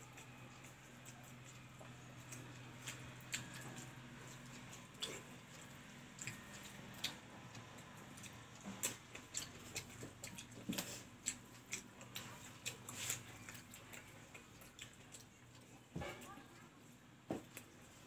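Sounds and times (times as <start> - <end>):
person chewing food: 0.0 - 16.0, 17.0 - 18.0.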